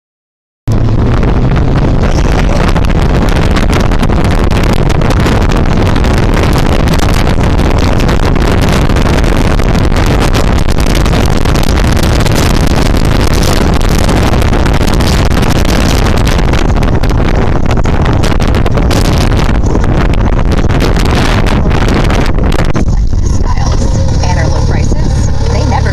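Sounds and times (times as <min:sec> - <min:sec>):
motorcycle running at speed: 0:00.7 - 0:25.9
wind noise on microphone: 0:00.7 - 0:25.9.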